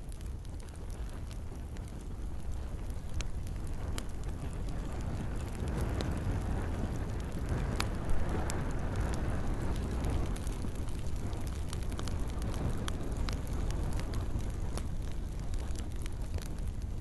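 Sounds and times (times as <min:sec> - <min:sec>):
burning wood popping: 0:00.0 - 0:17.0
campfire flames rushing: 0:00.0 - 0:17.0
light rain hissing: 0:00.0 - 0:17.0.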